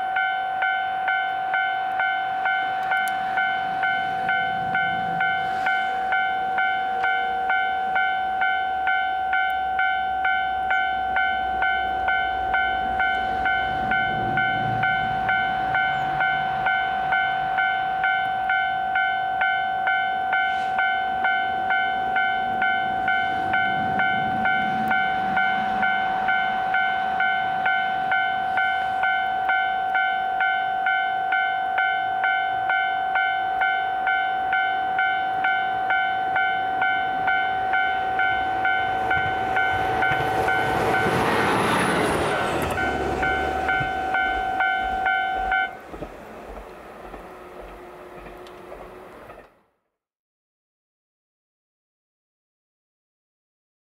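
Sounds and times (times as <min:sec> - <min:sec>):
level-crossing warning bell: 0:00.0 - 0:49.5
train passing over crossing: 0:00.0 - 0:49.7.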